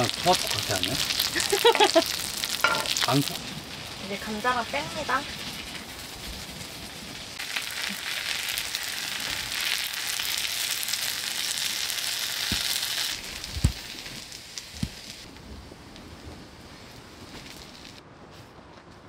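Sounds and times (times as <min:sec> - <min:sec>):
food sizzling in hot oil: 0:00.0 - 0:15.3, 0:16.8 - 0:18.0.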